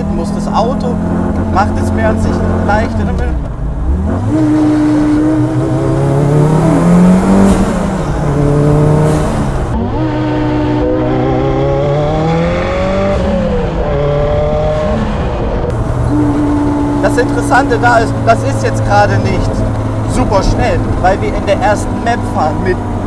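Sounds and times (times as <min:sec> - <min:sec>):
engine accelerating through gears: 0:00.0 - 0:23.0.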